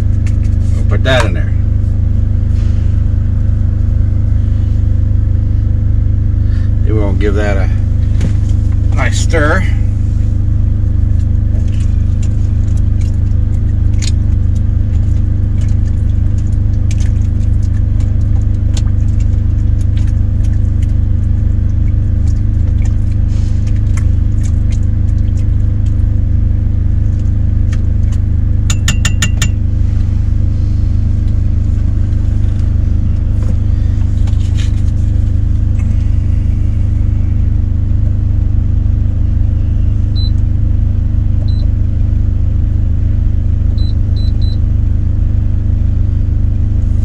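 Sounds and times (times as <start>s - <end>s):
idling diesel engine: 0.0s - 47.0s.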